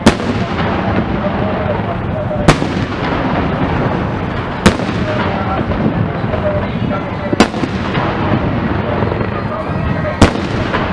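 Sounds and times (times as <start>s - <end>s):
dense fireworks din: 0.0s - 10.9s
firework shells booming: 0.0s - 10.9s.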